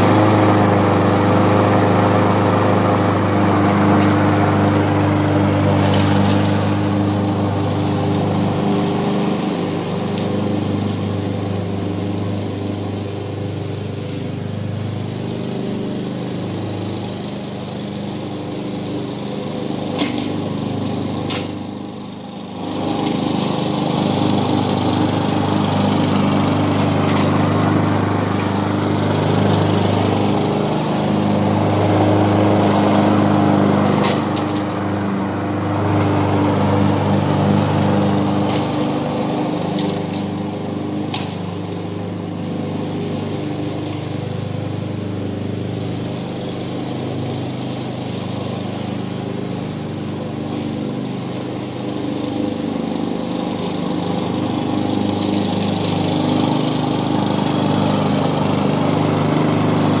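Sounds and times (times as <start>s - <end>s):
lawn mower running: 0.0s - 60.0s.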